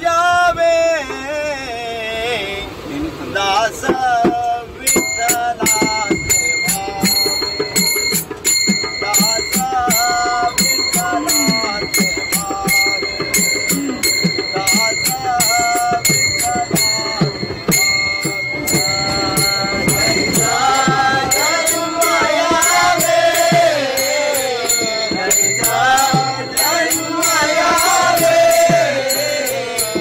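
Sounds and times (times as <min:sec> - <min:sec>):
men singing together: 0:00.0 - 0:30.0
hand cymbals: 0:04.8 - 0:30.0.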